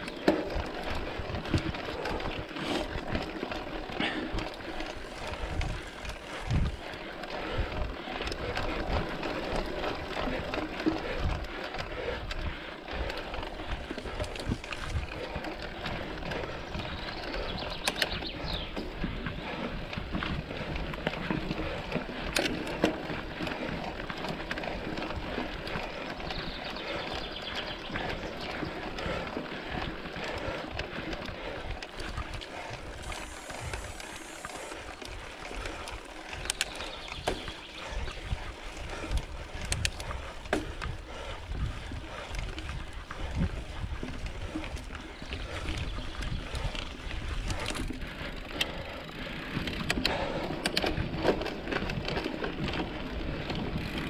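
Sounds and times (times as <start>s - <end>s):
bike clicking and rattling: 0.0s - 54.0s
bike tyres rolling on trail: 0.0s - 54.0s.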